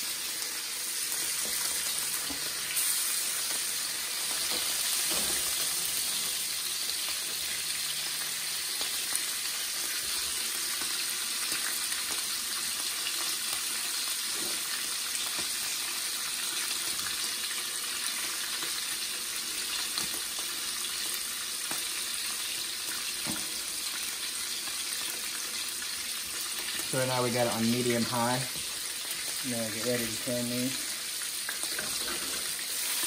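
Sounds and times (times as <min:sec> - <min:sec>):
meat sizzling in a frying pan: 0:00.0 - 0:33.0.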